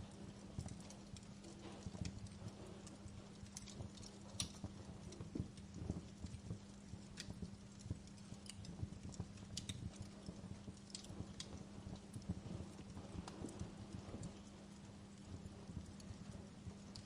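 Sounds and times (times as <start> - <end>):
low rumble of burning: 0.0 - 17.0
steady low hum: 0.0 - 17.0
wood fire crackling: 0.0 - 17.0.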